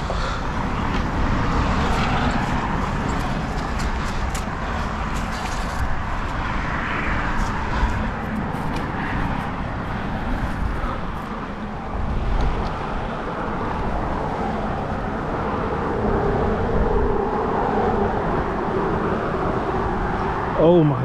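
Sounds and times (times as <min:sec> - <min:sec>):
traffic rumble on bridge: 0:00.0 - 0:21.0.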